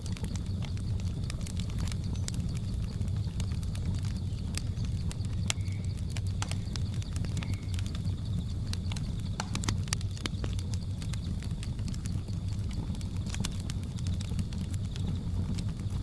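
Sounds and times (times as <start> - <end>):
insects droning: 0.0 - 16.0
wood fire crackling and popping: 0.0 - 16.0.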